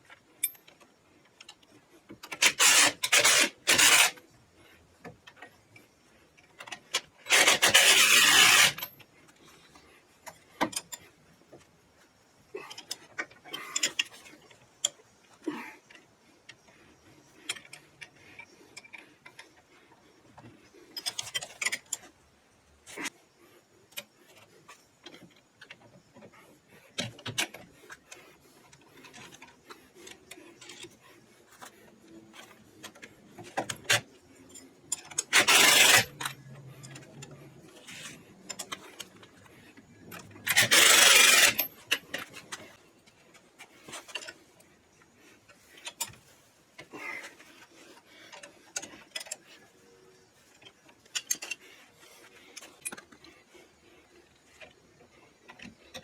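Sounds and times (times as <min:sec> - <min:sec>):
hand tools and metal parts rattling: 0:00.1 - 0:04.2, 0:05.0 - 0:23.2, 0:23.9 - 0:56.0.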